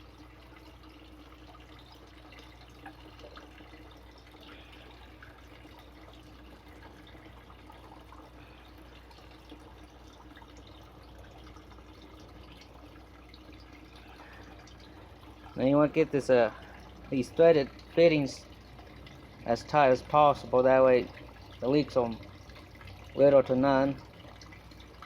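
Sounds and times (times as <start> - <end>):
low steady hum: 0.0 - 25.0
water trickling and dripping: 0.0 - 25.0.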